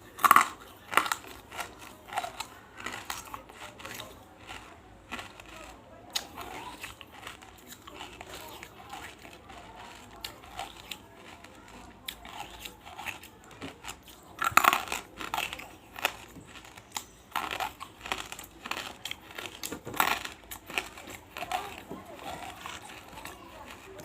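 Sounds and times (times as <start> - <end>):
crunching while eating: 0.0 - 24.0.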